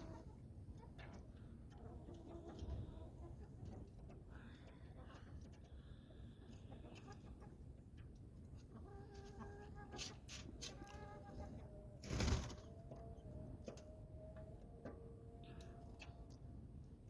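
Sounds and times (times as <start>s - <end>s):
chickens calling softly: 0.0s - 17.0s.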